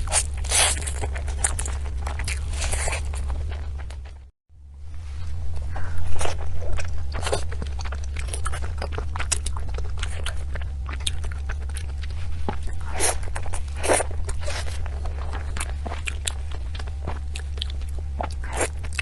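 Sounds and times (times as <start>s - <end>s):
crunchy food chewing: 0.0s - 4.3s, 5.3s - 19.0s
low hum: 0.0s - 19.0s.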